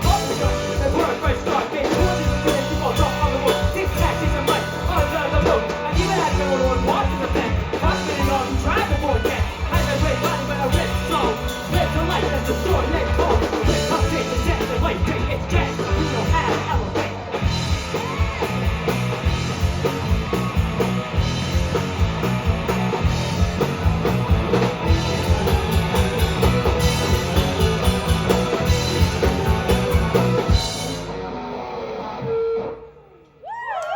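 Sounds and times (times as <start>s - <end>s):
pounding drum kit: 0.0s - 31.5s
live rock band playing: 0.0s - 33.2s.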